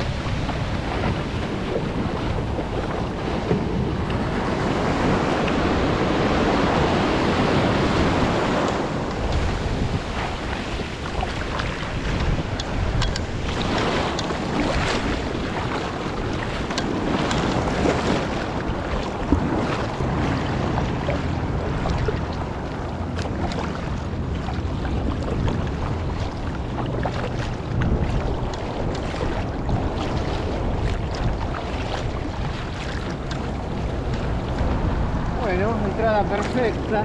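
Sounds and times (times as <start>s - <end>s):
kayak paddle splashing: 0.0s - 37.0s
small waves breaking: 0.0s - 37.0s
wind noise on microphone: 0.0s - 37.0s.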